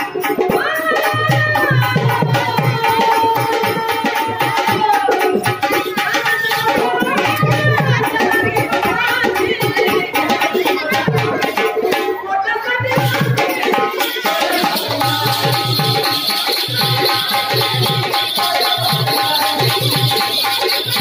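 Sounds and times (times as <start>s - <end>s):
hand drums: 0.0s - 21.0s.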